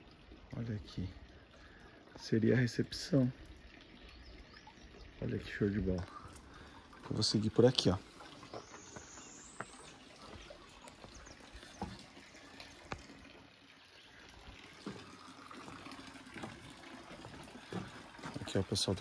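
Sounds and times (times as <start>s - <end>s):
trickle of running water: 0.0s - 19.0s.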